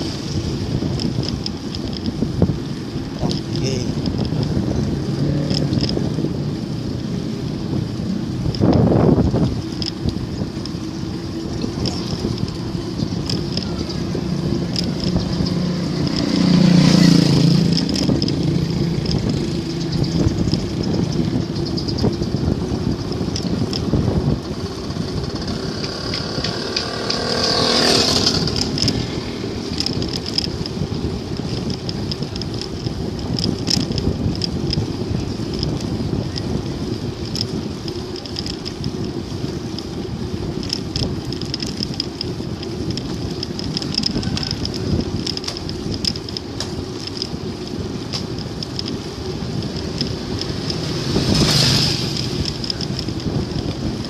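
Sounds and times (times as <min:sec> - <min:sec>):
bicycle road noise: 0:00.0 - 0:54.0
motor vehicles passing: 0:00.0 - 0:54.0
wind buffeting microphone: 0:00.0 - 0:54.0.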